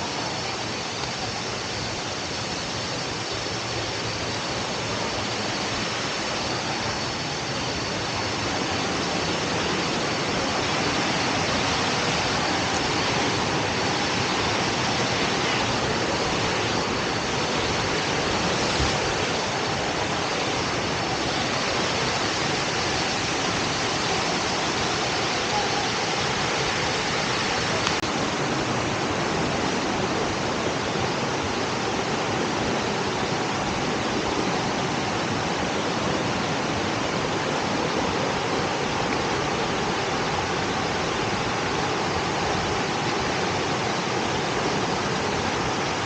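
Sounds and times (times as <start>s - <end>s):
waterfall roaring: 0.0s - 46.0s.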